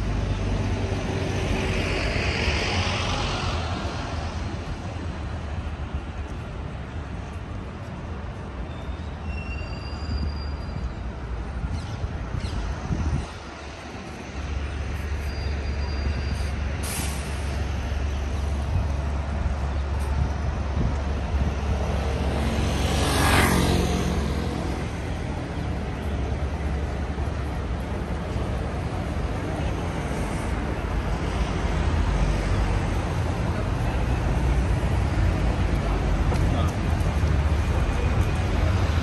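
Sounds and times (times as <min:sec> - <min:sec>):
traffic engine rumble: 0:00.0 - 0:39.0.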